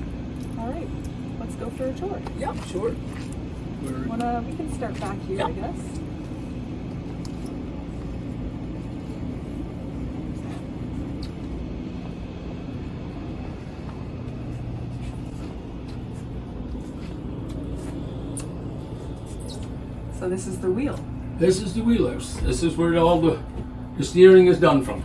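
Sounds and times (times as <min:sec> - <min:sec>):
machinery humming: 0:00.0 - 0:25.0.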